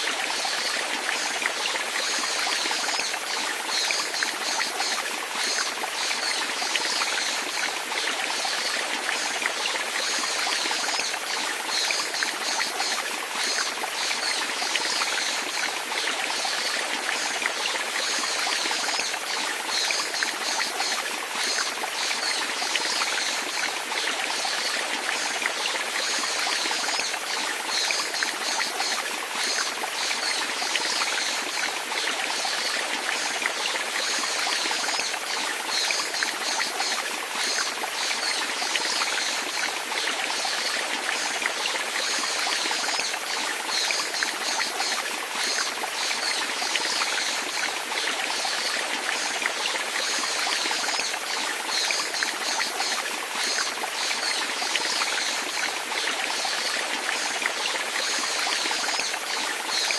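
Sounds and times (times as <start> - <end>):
small stream flowing: 0.0 - 59.9.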